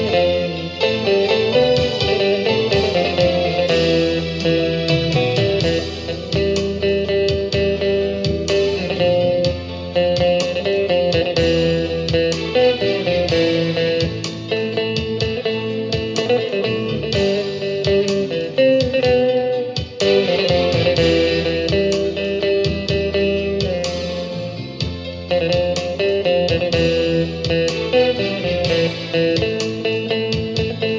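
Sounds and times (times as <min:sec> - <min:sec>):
instrumental guitar music: 0:00.0 - 0:30.9.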